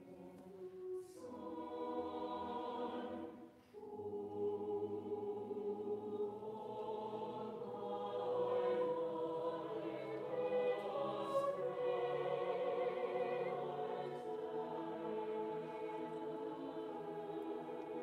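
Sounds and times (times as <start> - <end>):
choir singing unaccompanied: 0.0 - 18.0.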